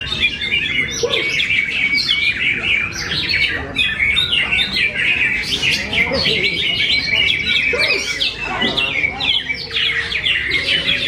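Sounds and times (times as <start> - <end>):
bird singing chirps and trills: 0.0 - 11.0.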